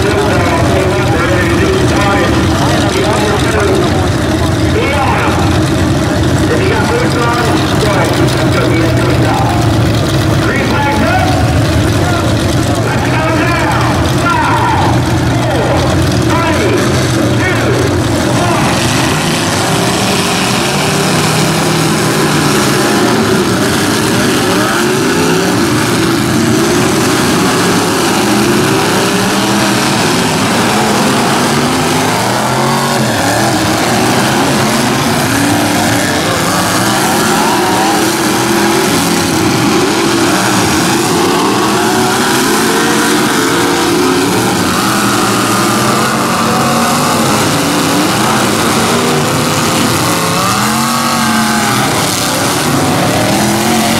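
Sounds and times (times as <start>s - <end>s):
truck engines revving: 0.0s - 53.9s.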